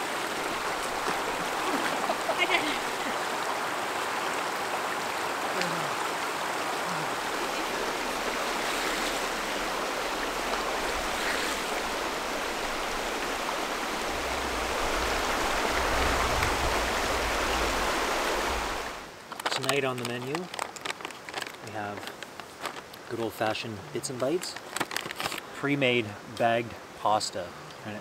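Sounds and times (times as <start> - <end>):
creek rushing over stones: 0.0 - 25.9.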